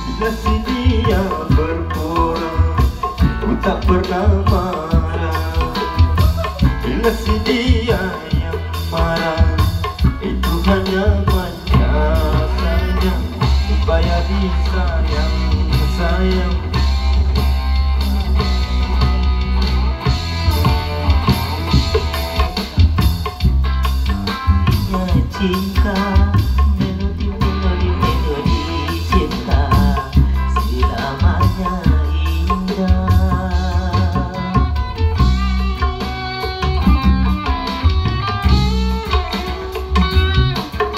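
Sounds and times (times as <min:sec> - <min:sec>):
strong steady bass: 0:00.0 - 0:40.7
electric guitar melody: 0:00.0 - 0:40.9
hand drums: 0:00.0 - 0:40.9
live band music: 0:00.0 - 0:40.9.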